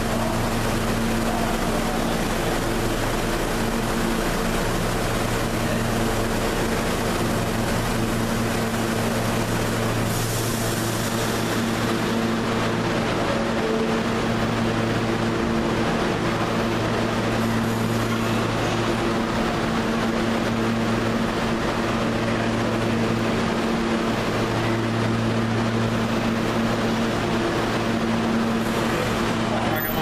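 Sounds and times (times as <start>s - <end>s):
continuous rumble: 0.0s - 30.0s
subway train humming: 0.0s - 30.0s.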